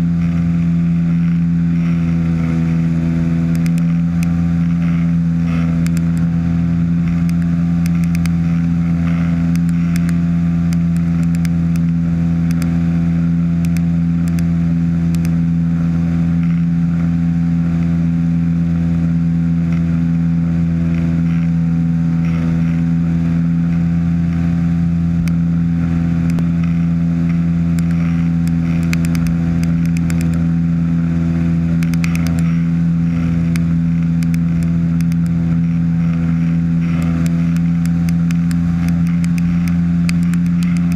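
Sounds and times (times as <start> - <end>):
ultralight engine and propeller drone: 0.0 - 40.9.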